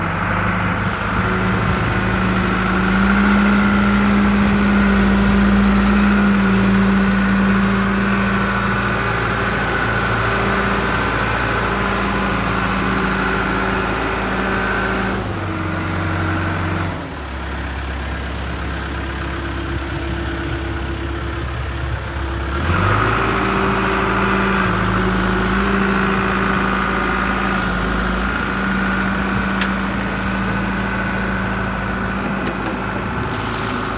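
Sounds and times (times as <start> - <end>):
backhoe diesel engine running: 0.0 - 33.9.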